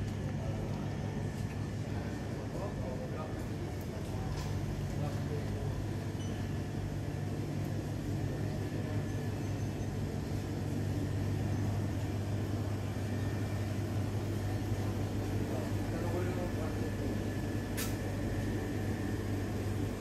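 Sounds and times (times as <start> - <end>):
low indoor hum: 0.0 - 20.0.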